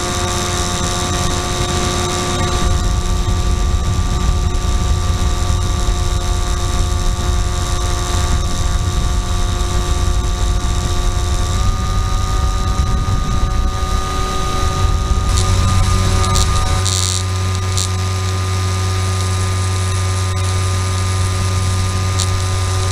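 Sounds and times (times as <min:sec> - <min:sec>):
model aircraft motor whine: 0:00.0 - 0:22.9
wind rumble on microphone: 0:00.0 - 0:22.9.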